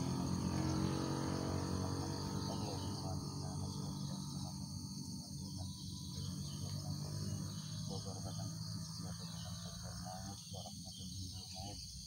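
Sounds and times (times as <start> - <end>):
insects trilling: 0.0 - 12.0
low even hum: 1.4 - 11.8.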